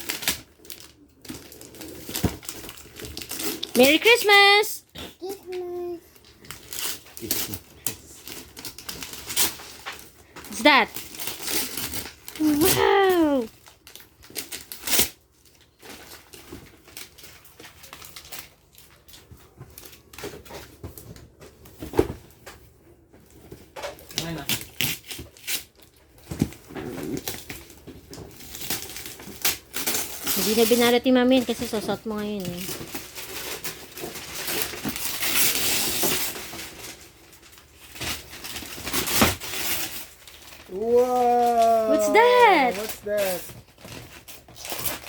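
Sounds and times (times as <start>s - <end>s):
gift wrapping rustling: 0.0s - 45.0s.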